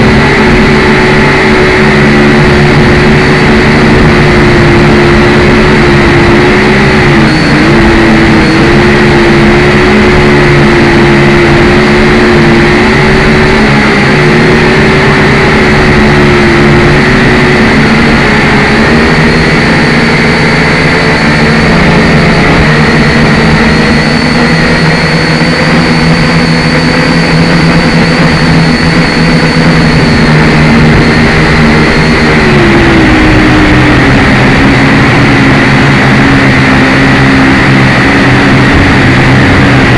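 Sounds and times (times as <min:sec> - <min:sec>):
toy quadcopter motors buzzing: 0:00.0 - 0:34.7.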